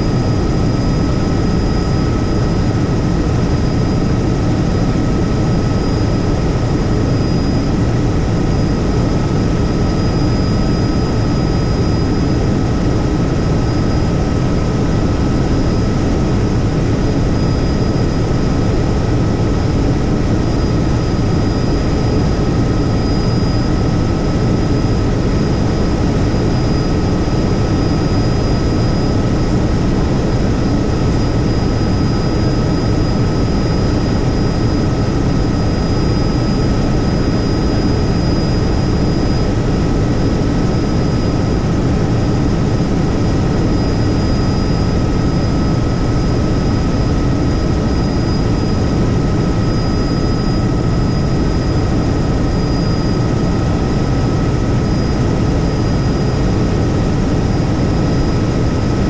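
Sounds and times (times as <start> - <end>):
helicopter rotor and engine rumble: 0.0 - 59.0
high-pitched whine: 0.0 - 59.0.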